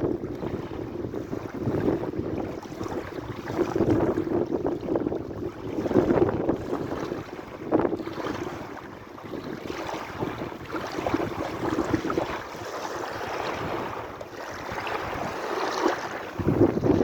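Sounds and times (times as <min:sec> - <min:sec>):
sea waves lapping and splashing: 0:00.0 - 0:17.0.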